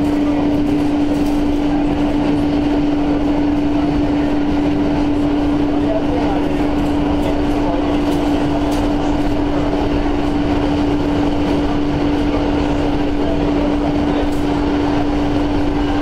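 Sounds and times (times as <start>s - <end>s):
constant hum: 0.0s - 16.0s
train wheels rumbling on rail: 0.0s - 16.0s.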